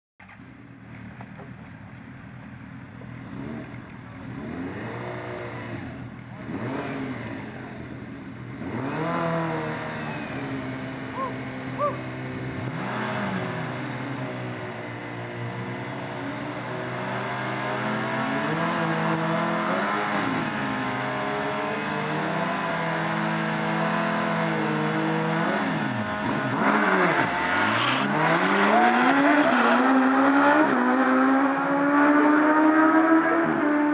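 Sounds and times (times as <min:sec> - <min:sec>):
motorcycle engines idling and revving: 0:00.2 - 0:33.9
motorcycles accelerating at full throttle: 0:02.6 - 0:33.9.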